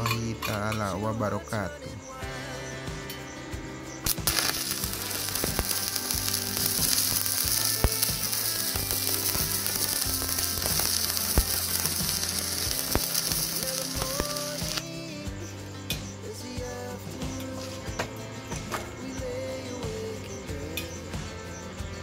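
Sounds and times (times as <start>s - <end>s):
welding arc crackling and sizzling: 4.0s - 22.0s.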